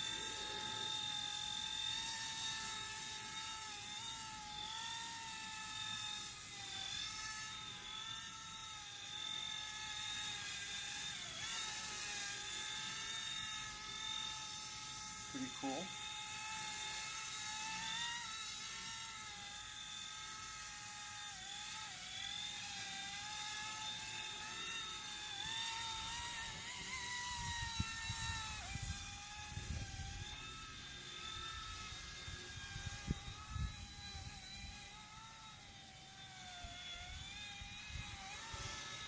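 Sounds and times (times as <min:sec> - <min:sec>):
toy helicopter rotor whine: 0:00.0 - 0:39.0.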